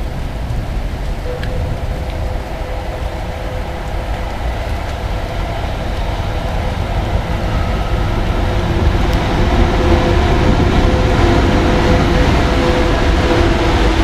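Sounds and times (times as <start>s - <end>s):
electric locomotive hum and rumble: 0.0s - 14.0s.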